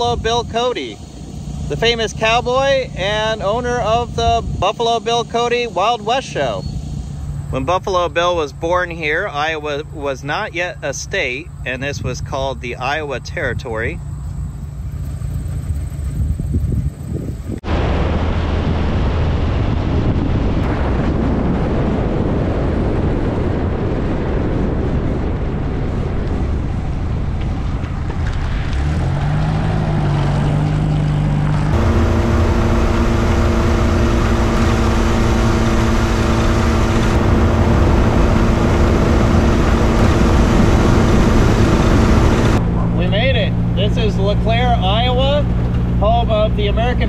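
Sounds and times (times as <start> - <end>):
car engine cruising: 0.0 - 21.2, 25.1 - 47.0
wind and road noise: 0.0 - 47.0.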